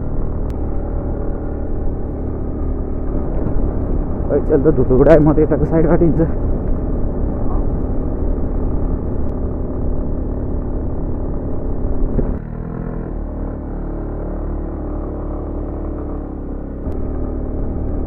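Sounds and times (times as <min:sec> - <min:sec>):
scooter engine running: 0:00.0 - 0:18.0.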